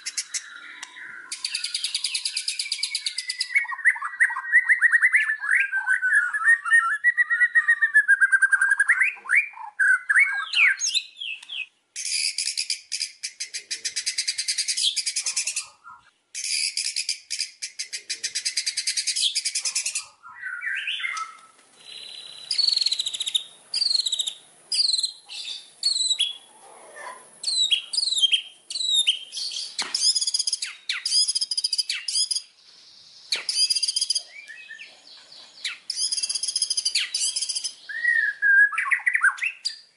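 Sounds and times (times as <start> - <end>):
bird singing varied song: 0.0 - 26.6, 27.3 - 39.9.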